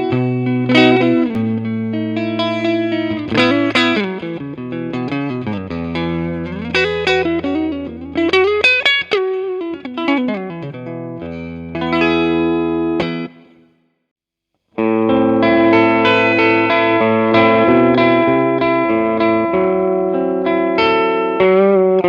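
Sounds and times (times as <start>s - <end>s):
overdriven electric guitar: 0.0s - 13.7s, 14.7s - 22.0s.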